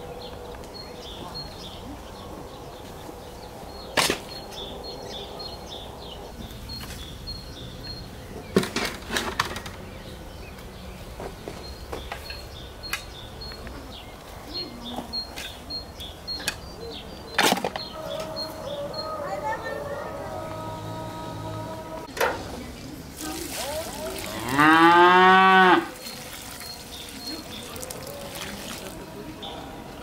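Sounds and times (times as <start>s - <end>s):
small birds chirping: 0.0s - 20.8s, 22.5s - 30.0s.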